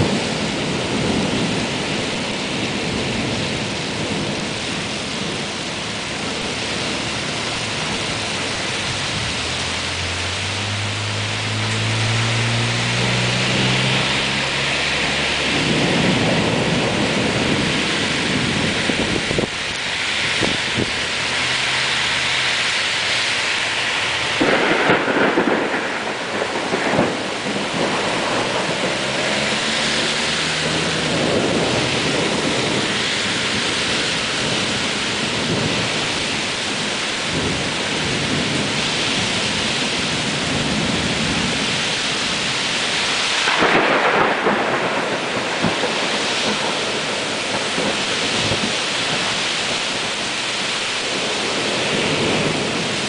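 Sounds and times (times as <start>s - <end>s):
heavy rain pouring: 0.0s - 53.0s.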